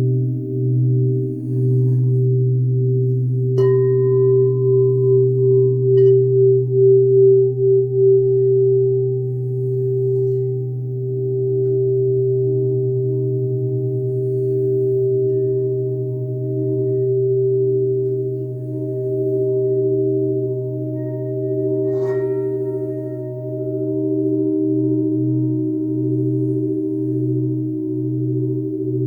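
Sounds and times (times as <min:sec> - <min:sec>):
singing bowls ringing: 0:00.0 - 0:29.0
singing bowl strike: 0:03.4 - 0:12.9, 0:14.0 - 0:29.0.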